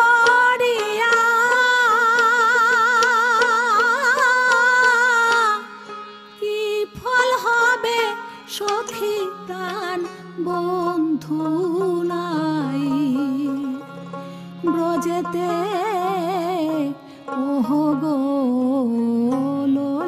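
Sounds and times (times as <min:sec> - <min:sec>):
plucked-string phrases: 0:00.0 - 0:20.0.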